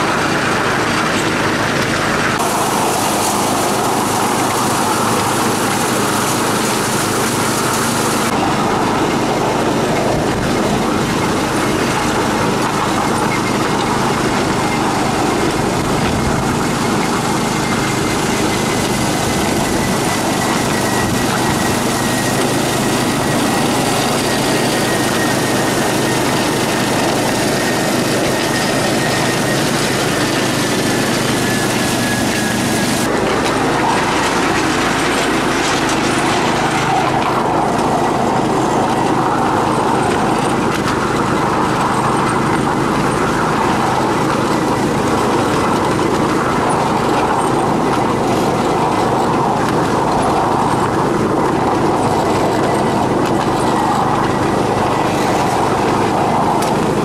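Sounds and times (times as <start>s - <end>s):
miniature train running on track: 0.0s - 57.0s.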